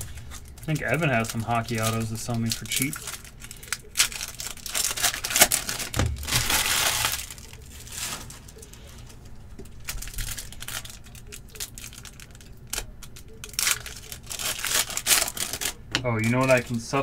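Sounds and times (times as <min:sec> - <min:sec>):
foil wrappers crinkling and tearing: 0:00.0 - 0:17.0.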